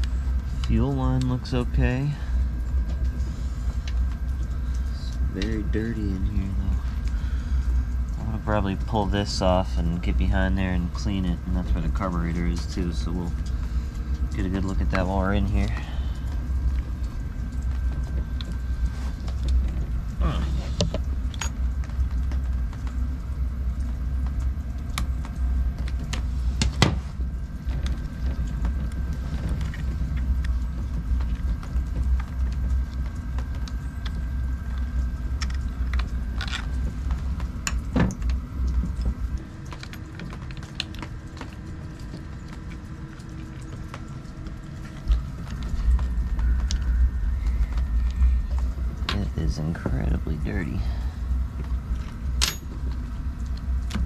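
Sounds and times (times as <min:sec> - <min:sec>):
low rumble: 0:00.0 - 0:54.0.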